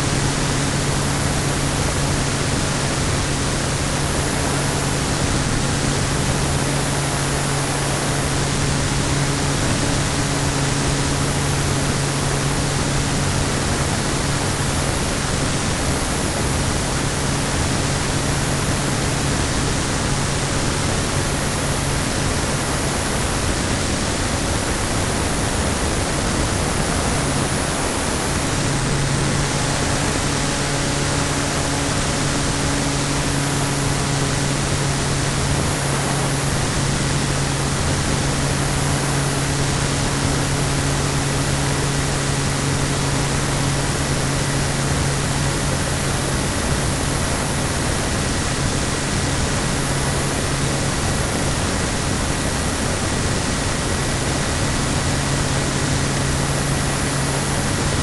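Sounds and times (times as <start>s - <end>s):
low steady hum: 0.0s - 58.0s
rushing airflow noise: 0.0s - 58.0s.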